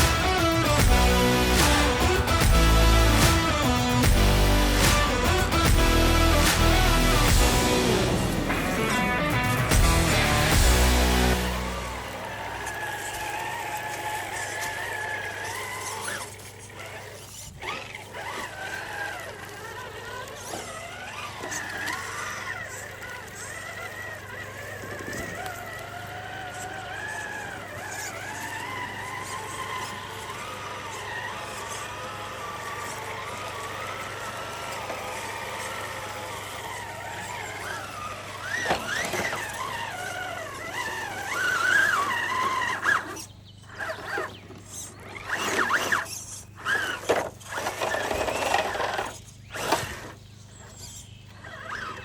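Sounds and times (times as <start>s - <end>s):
rc car electric motor whining: 0.0s - 52.0s.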